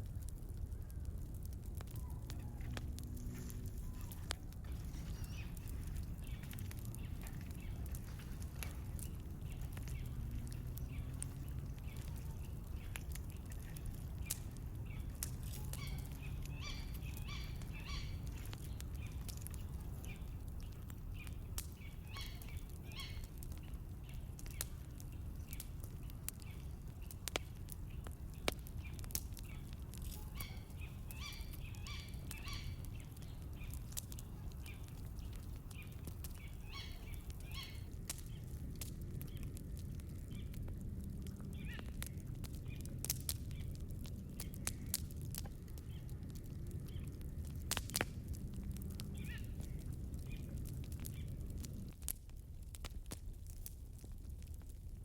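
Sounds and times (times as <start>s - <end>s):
steady low rumble: 0.0s - 55.0s
small birds chirping: 0.9s - 52.0s.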